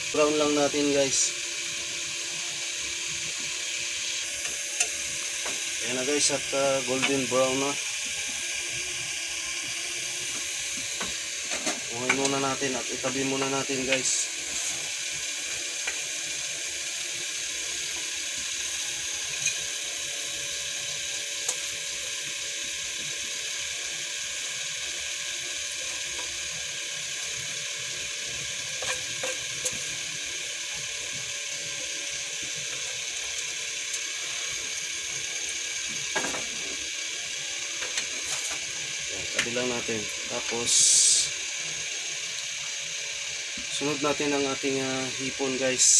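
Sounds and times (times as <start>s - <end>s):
oil sizzling in a frying pan: 0.0s - 45.9s.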